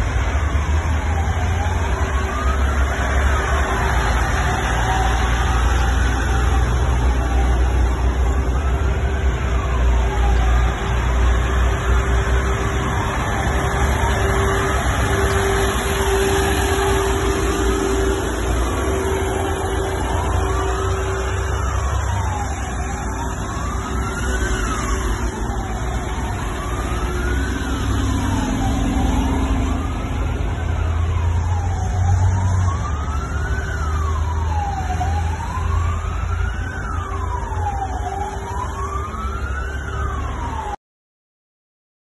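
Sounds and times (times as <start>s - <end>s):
siren wailing: 0.0s - 40.8s
trucks rumbling past: 0.0s - 40.8s.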